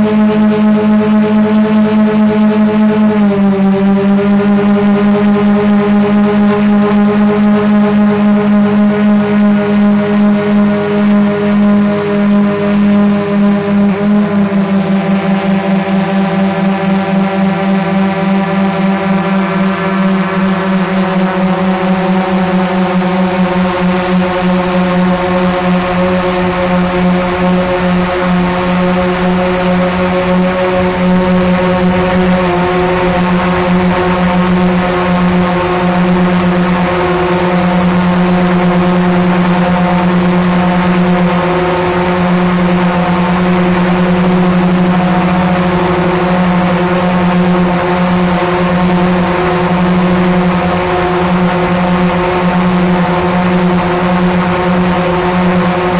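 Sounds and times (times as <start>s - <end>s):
drone propellers humming: 0.0s - 55.9s.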